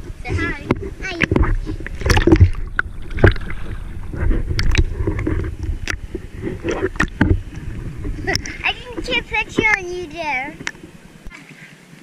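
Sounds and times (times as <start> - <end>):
low churning rumble: 0.0 - 11.3
pool water sloshing and splashing: 0.0 - 12.0.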